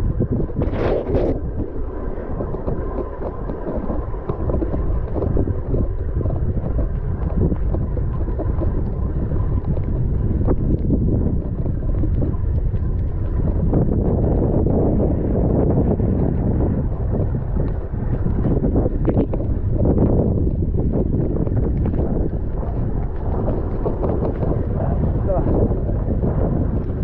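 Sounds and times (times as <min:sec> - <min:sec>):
bike rolling over wet grass: 0:00.0 - 0:27.0
wind buffeting microphone: 0:00.0 - 0:27.0.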